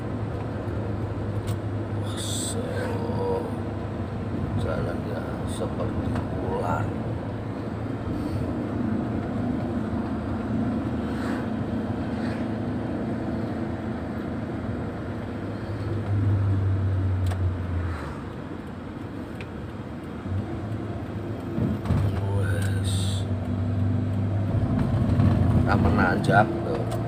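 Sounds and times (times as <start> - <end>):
car engine and tyre drone: 0.0 - 27.0.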